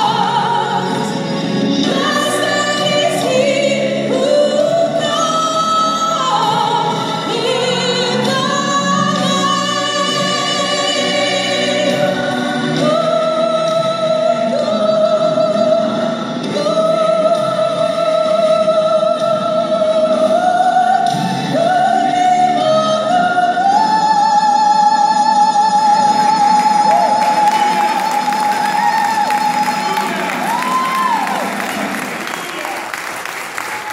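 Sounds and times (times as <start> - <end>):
woman singing with vibrato: 0.0 - 32.0.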